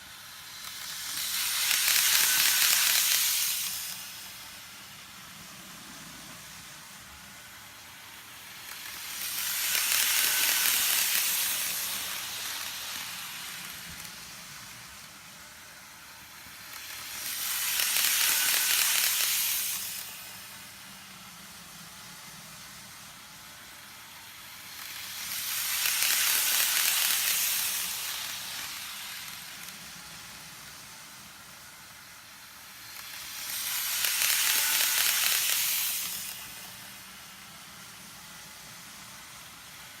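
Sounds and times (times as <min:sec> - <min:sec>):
model trains passing on track: 0:00.0 - 0:40.0.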